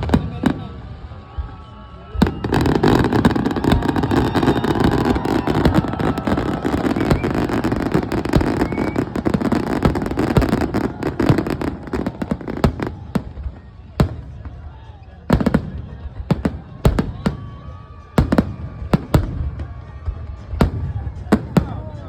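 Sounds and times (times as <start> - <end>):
fireworks pops and crackles: 0.0 - 22.0.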